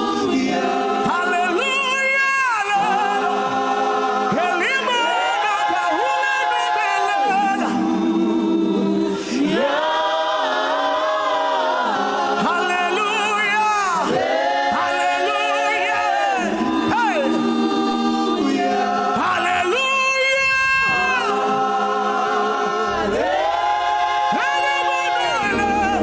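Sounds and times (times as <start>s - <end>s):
voices singing gospel song: 0.0s - 26.0s.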